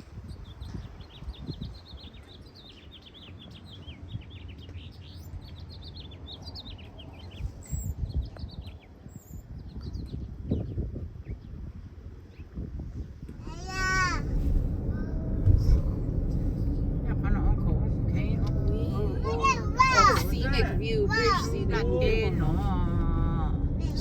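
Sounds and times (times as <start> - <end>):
small birds chirping: 0.0 - 17.1, 18.1 - 22.4
low rumbling noise: 0.0 - 24.0.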